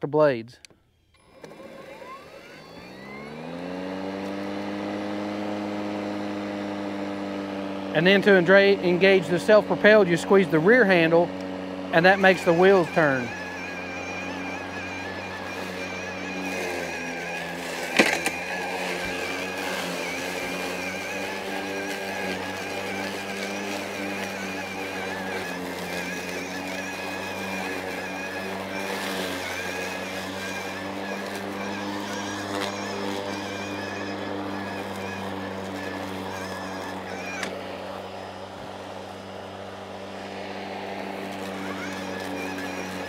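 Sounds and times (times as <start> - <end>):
mower blade motor whining: 0.6 - 43.0.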